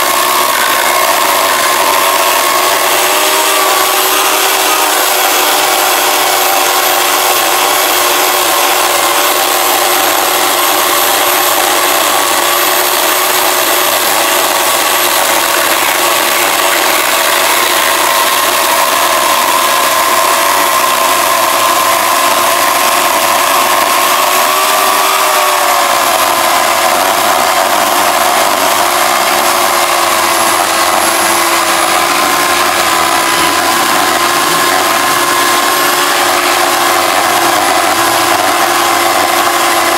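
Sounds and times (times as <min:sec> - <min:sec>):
electric chainsaw cutting wood: 0:00.0 - 0:39.9.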